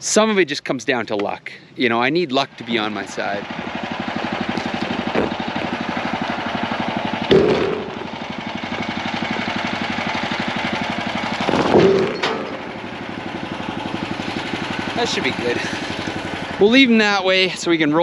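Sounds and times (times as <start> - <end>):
small gas engine idling: 1.5 - 18.0.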